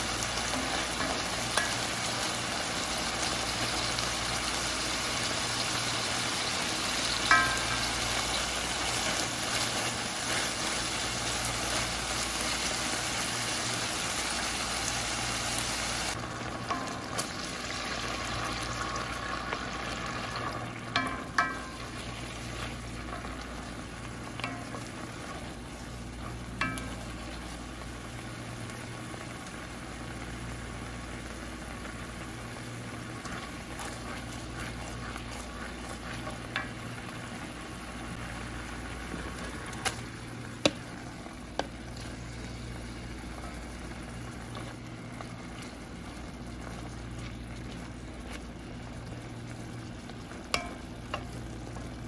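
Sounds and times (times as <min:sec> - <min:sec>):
onions sizzling in oil: 0:00.0 - 0:52.0.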